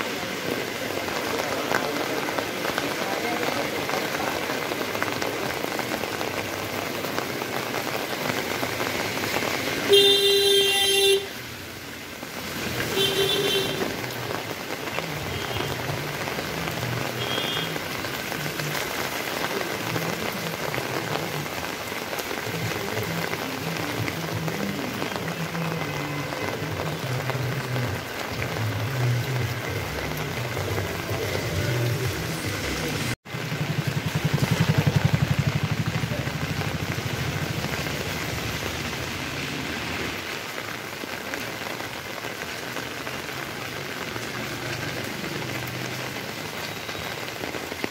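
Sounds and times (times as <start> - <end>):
rain falling on wet street: 0.0 - 47.9.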